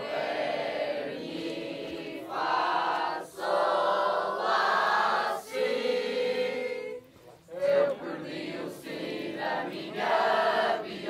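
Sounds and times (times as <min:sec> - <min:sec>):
group singing a cappella: 0:00.0 - 0:11.0.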